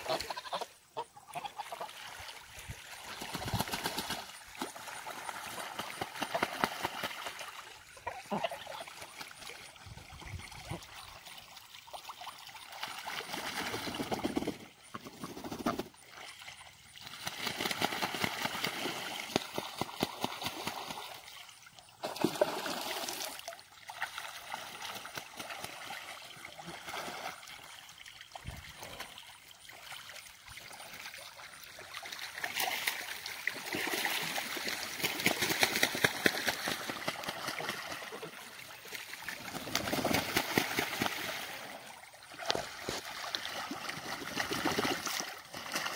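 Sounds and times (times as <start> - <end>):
ducks and geese splashing water: 0.0 - 45.9.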